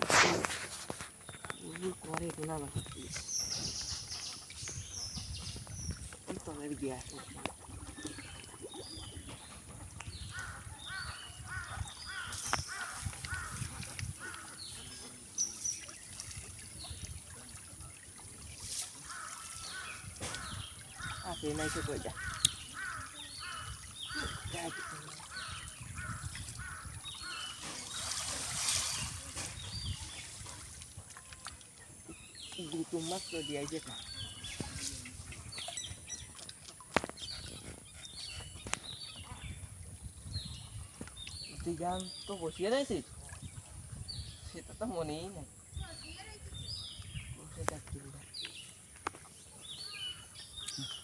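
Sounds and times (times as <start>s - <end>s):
water sloshing and trickling: 0.0s - 51.0s
birds chirping: 0.4s - 51.0s.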